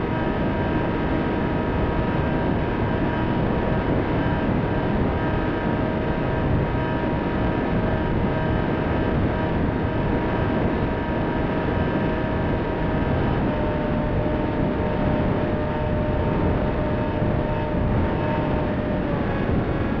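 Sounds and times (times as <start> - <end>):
electric motor whine: 0.0 - 20.0
rushing wind: 0.0 - 20.0.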